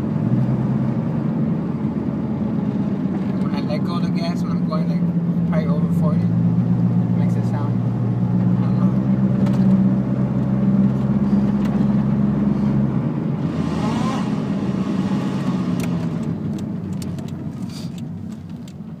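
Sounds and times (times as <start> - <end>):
car engine low drone: 0.0 - 19.0.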